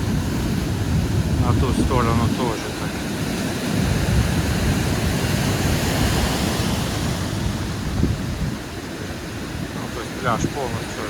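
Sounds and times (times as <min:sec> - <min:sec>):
storm waves breaking against a seawall: 0:00.0 - 0:11.0
wind buffeting the microphone: 0:00.0 - 0:11.0.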